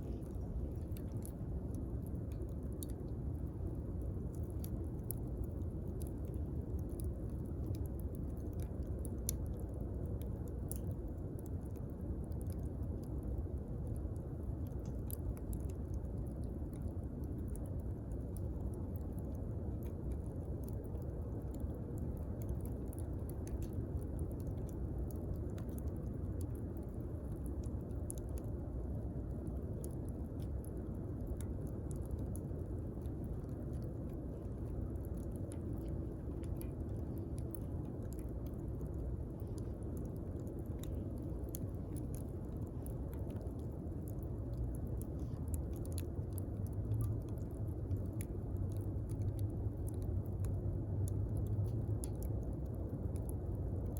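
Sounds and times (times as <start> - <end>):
low rumble of flames: 0.0 - 53.9
wood crackling and popping: 0.0 - 53.9.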